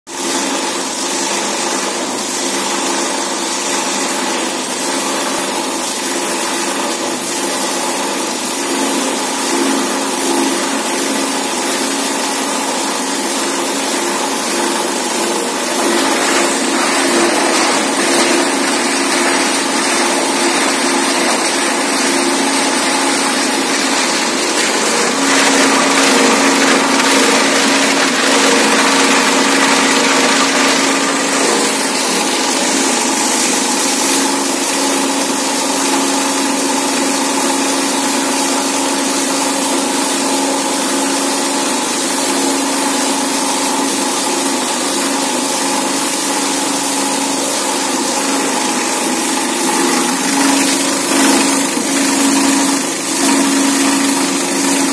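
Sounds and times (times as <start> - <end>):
plastic granulator chopping bottles: 0.1 - 54.9.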